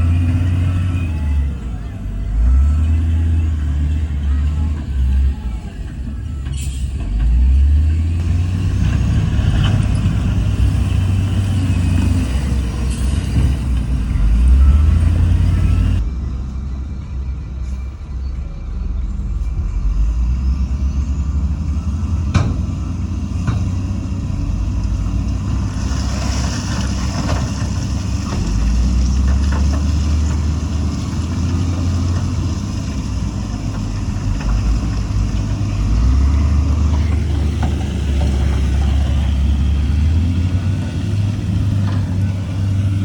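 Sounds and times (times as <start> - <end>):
diesel machinery engine rumble: 0.0 - 43.0.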